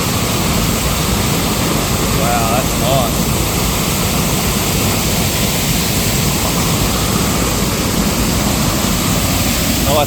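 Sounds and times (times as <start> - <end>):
river and waterfall rushing: 0.0 - 10.0.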